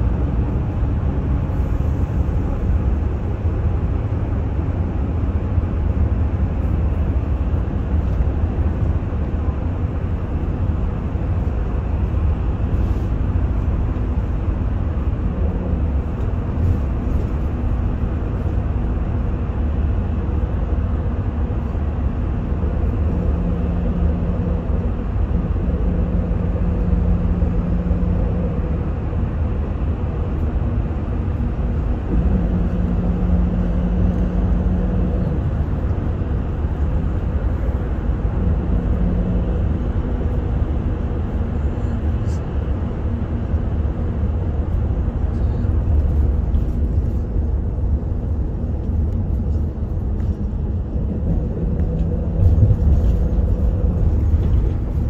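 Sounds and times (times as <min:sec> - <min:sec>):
bus engine drone: 0:00.0 - 0:55.0
road and tunnel noise: 0:00.0 - 0:55.0.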